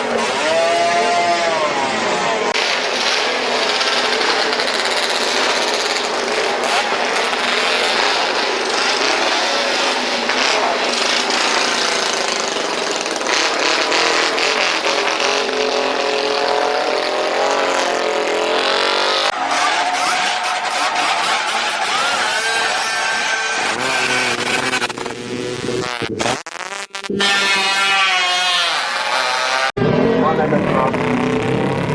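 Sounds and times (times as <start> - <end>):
racing motorcycle engines revving: 0.0 - 31.9.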